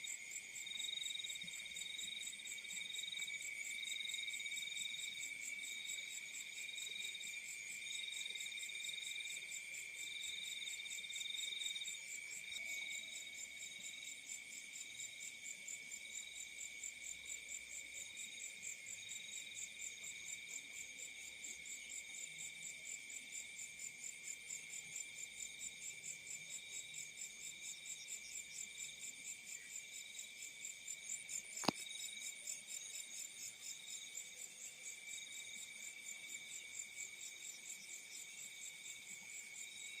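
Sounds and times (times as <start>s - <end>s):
field crickets chirping: 0.0s - 40.0s.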